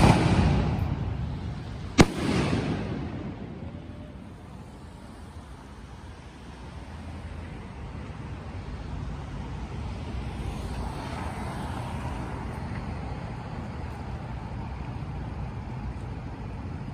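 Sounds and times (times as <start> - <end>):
street traffic rumble: 0.0 - 16.9.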